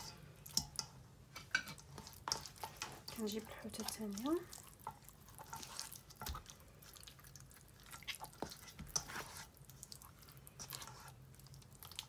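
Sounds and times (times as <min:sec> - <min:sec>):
hands squelching wet paste: 0:01.5 - 0:12.0.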